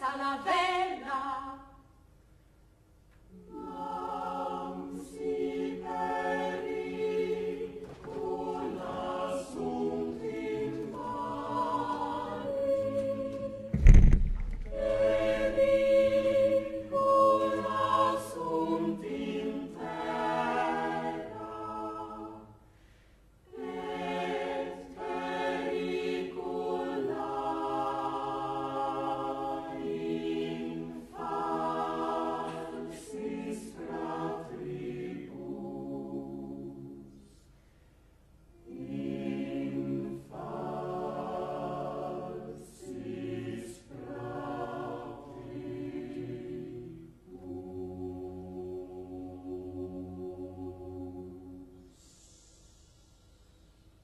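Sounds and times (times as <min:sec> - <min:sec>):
choir singing unaccompanied: 0:00.0 - 0:01.6, 0:03.3 - 0:22.6, 0:23.5 - 0:37.4, 0:38.5 - 0:52.8.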